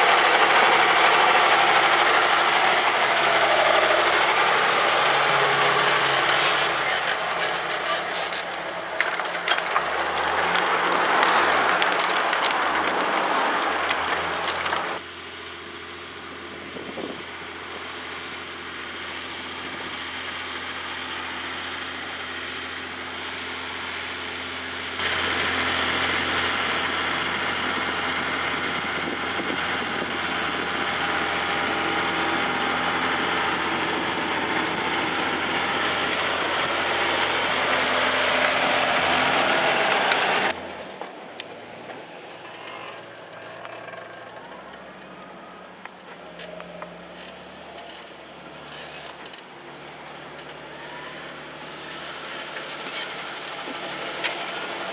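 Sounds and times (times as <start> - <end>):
tractor diesel engine: 0.0 - 54.9.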